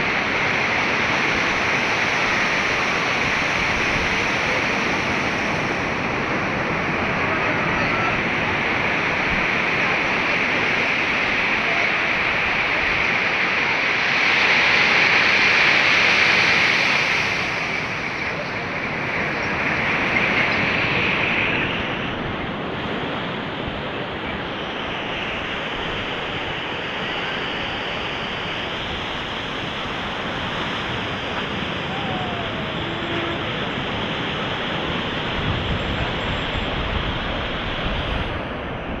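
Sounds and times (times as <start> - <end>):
surf breaking on beach: 0.0 - 39.0.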